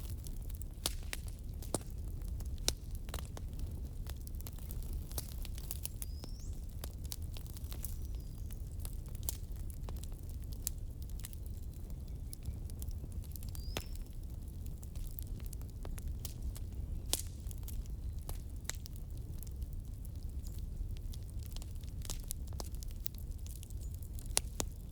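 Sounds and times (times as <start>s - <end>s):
firewood crackling and popping: 0.0s - 24.9s.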